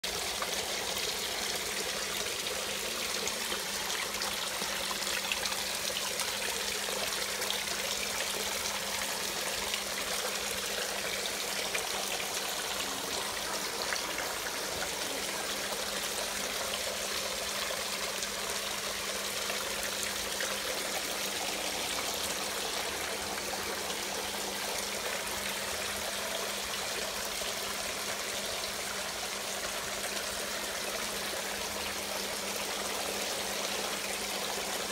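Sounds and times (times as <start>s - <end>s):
water running and trickling: 0.0s - 34.9s.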